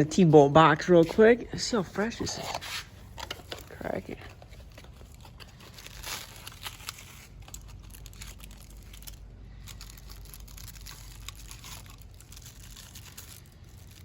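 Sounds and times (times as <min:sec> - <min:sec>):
packaging crinkling and rustling: 0:01.9 - 0:14.0.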